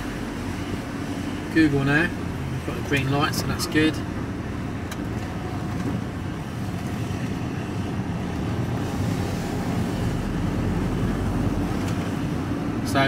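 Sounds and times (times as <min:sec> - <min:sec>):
engine and road noise in cabin: 0:00.0 - 0:13.0.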